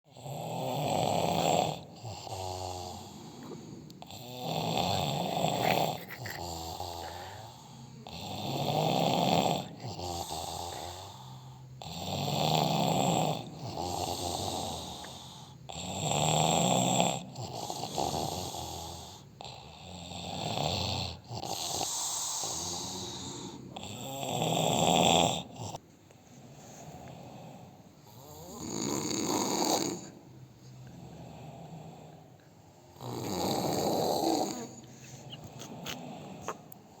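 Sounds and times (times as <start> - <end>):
person snoring: 0.1 - 25.8, 26.8 - 30.2, 32.8 - 36.8.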